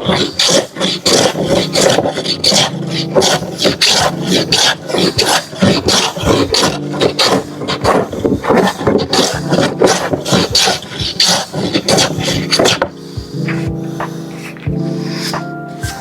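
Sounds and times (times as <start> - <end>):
background music: 0.0 - 16.0
hand tool scraping wood: 0.0 - 16.0.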